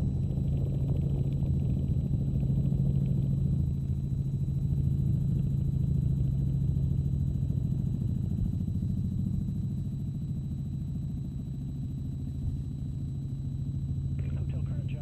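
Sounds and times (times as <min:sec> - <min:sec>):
helicopter drone from cabin: 0:00.0 - 0:15.0.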